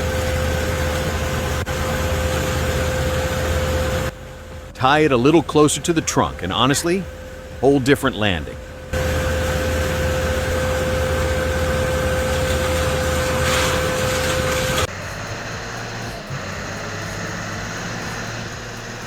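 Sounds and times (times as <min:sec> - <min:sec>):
loud engine with high whine: 0:00.0 - 0:19.0
truck engine pulling under load: 0:00.0 - 0:19.0.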